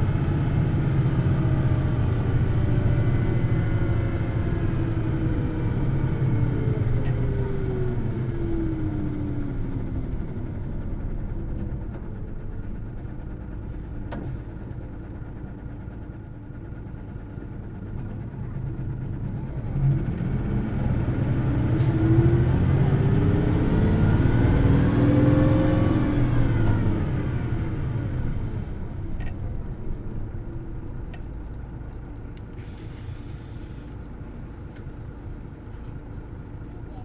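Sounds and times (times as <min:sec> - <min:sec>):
city bus engine: 0:00.0 - 0:37.0.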